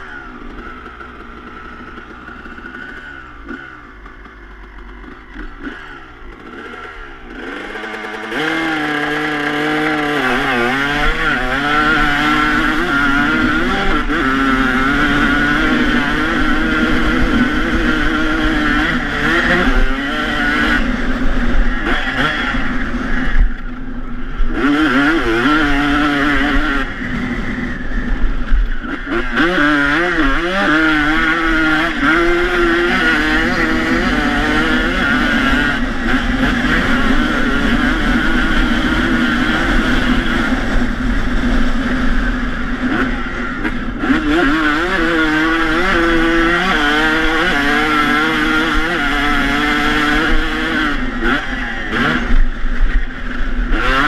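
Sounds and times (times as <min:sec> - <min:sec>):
two-stroke dirt bike engine: 0:00.0 - 0:54.0.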